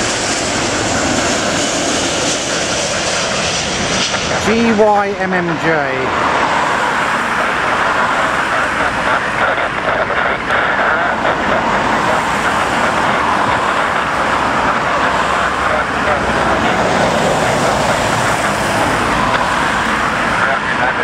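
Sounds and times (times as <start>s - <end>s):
airplane engine landing: 0.0s - 21.0s
road traffic roar: 0.0s - 21.0s.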